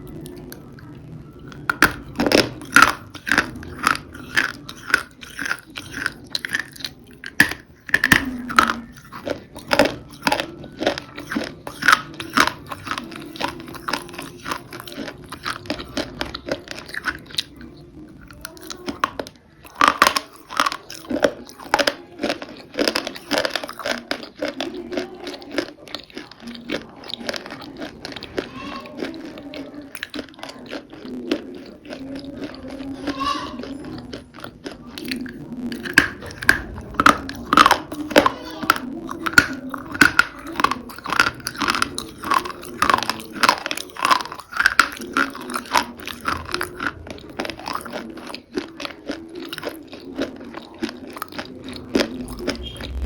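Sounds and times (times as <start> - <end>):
crunchy food being chewed: 0.0 - 53.0.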